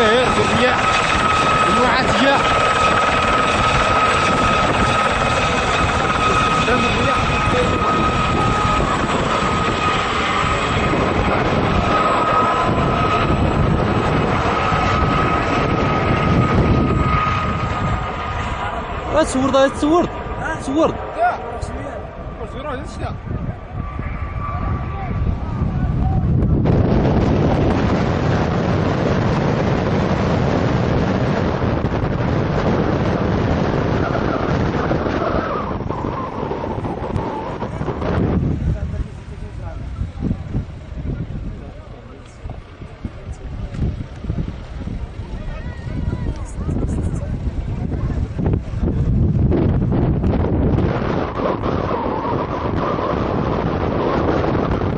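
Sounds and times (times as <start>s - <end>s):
helicopter rotor and engine: 0.0s - 54.9s
high whine: 0.0s - 54.9s
wind buffeting microphone: 0.0s - 54.9s.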